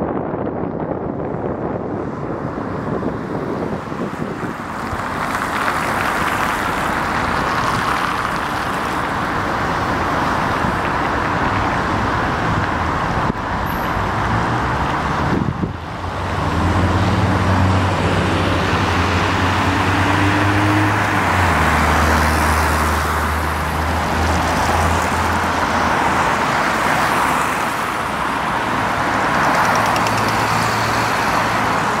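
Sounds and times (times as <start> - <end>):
cars passing: 0.2 - 32.0.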